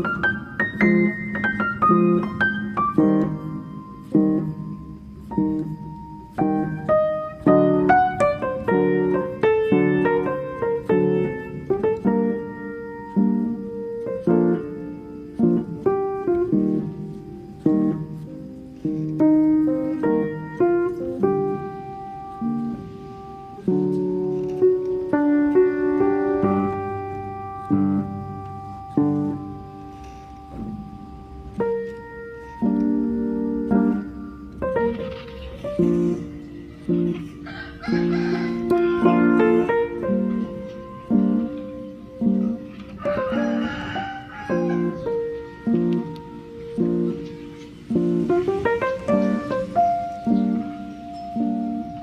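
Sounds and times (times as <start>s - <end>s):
piano music: 0.0s - 52.0s.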